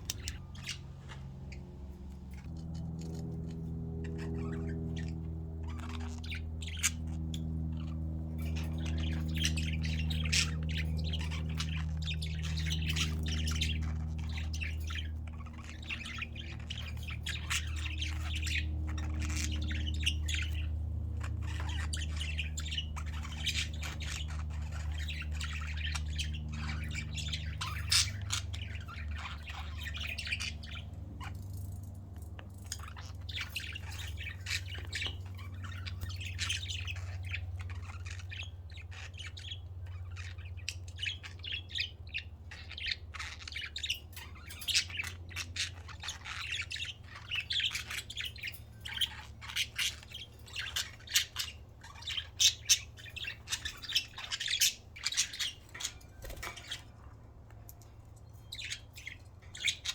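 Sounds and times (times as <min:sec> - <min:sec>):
budgerigars chirping and chattering: 0:00.0 - 0:59.9
low steady hum: 0:00.0 - 0:59.9.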